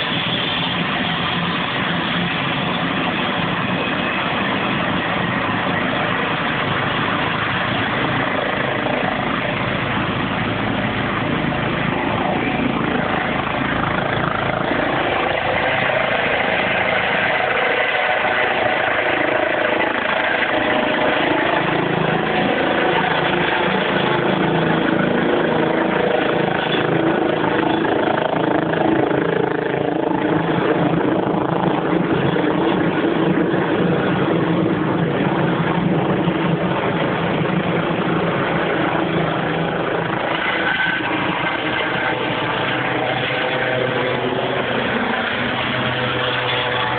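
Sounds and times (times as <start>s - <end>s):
helicopter rotor and engines: 0.0s - 46.9s.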